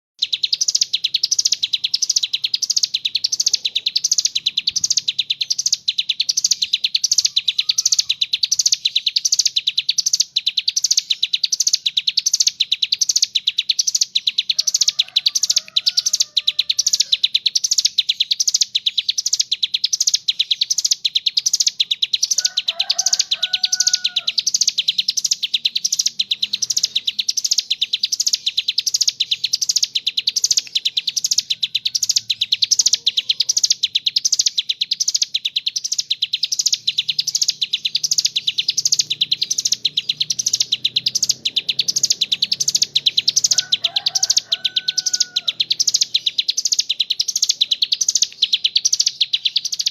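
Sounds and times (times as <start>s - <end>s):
bird singing high fast trill: 0.2s - 49.9s
lower whistled bird calls: 0.2s - 49.9s.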